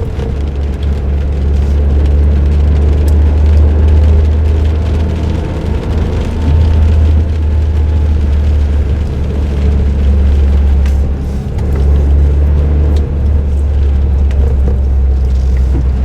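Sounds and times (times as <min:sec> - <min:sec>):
car engine drone: 0:00.0 - 0:16.0
road and tyre noise: 0:00.0 - 0:16.0.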